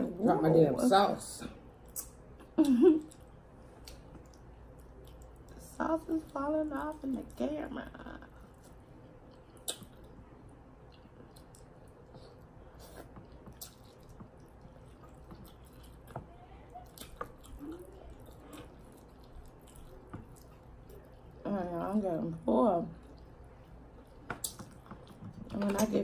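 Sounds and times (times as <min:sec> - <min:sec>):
people chewing: 0:01.4 - 0:26.0.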